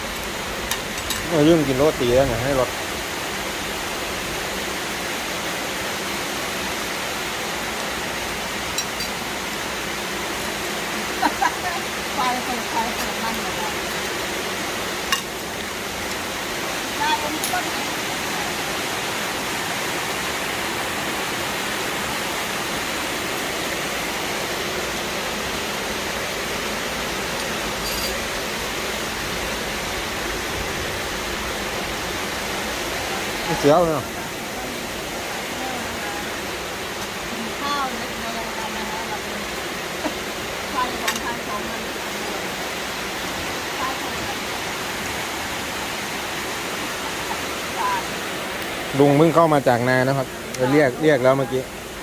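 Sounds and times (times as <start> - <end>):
steady hiss: 0.0 - 52.0.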